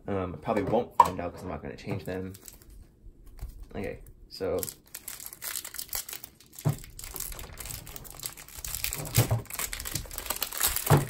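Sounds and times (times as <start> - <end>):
plastic wrap crinkling: 2.0 - 11.0.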